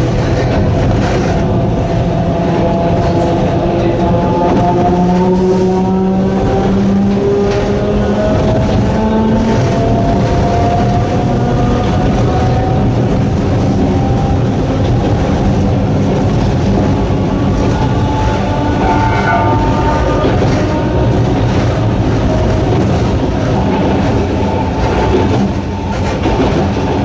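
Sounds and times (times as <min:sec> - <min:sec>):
train wheels clattering on rails: 0:00.0 - 0:27.0.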